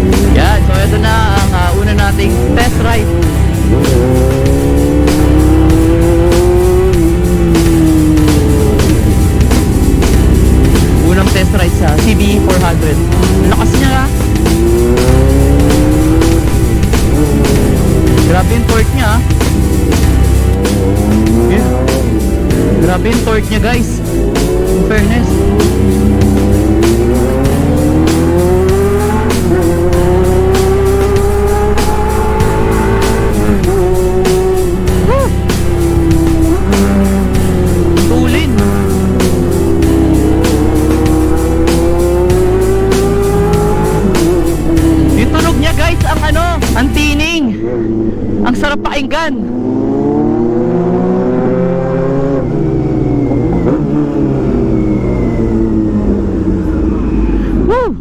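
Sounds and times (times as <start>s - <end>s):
motorcycle engine accelerating: 0.0s - 48.6s, 49.4s - 57.9s.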